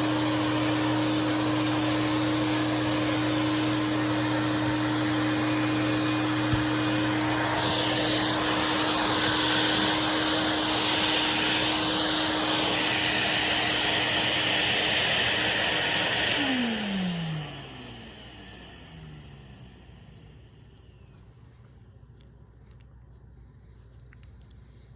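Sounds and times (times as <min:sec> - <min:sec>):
vacuum motor winding down: 0:00.0 - 0:21.9
vacuum cleaner running: 0:00.0 - 0:22.1.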